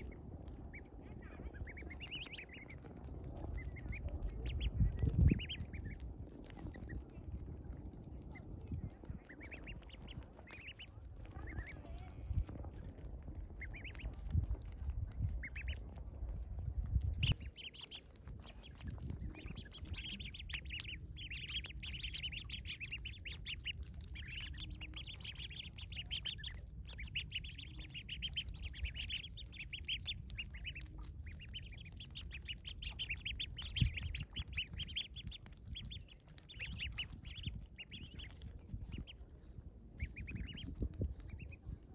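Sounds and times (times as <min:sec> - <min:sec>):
ducklings peeping: 0:00.0 - 0:41.9
low rumble: 0:00.0 - 0:41.9.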